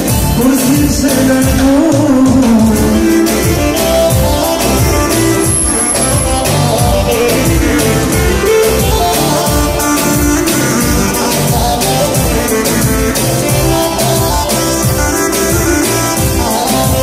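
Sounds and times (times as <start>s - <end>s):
loud music with singing: 0.0s - 17.0s.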